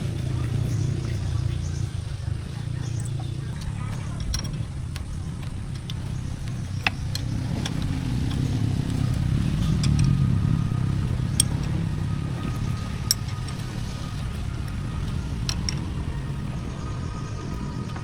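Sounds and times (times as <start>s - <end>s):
engine rumbling: 0.0s - 18.0s
light clicks: 0.0s - 18.0s.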